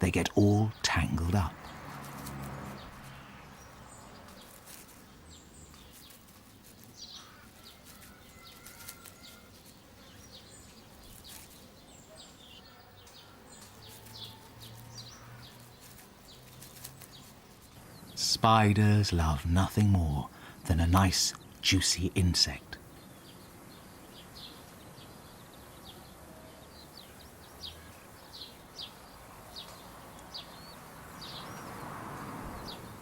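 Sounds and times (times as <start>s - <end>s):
outdoor nature ambience: 0.0s - 33.0s
small birds chirping: 0.0s - 33.0s.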